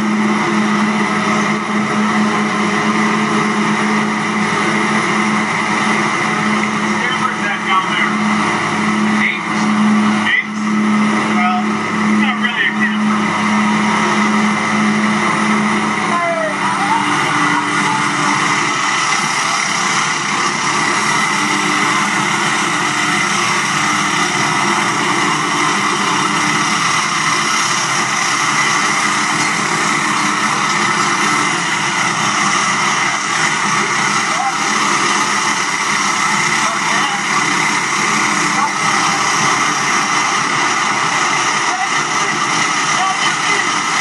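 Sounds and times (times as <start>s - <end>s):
turboprop engines: 0.0s - 44.0s.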